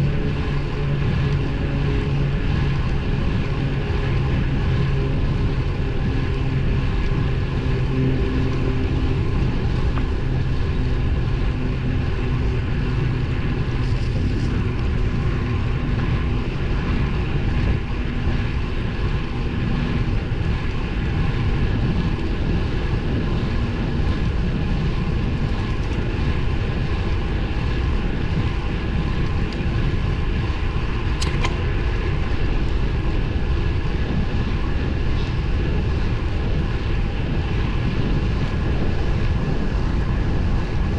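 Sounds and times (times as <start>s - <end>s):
low hum: 0.0s - 40.9s
wind and road noise: 0.0s - 40.9s.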